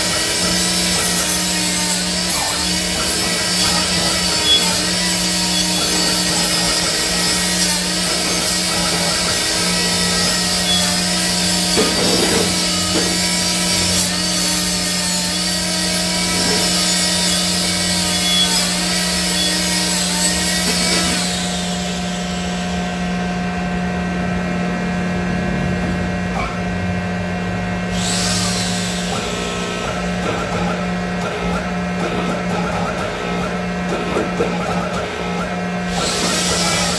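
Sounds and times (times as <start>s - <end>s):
hydraulic press humming: 0.0s - 36.9s.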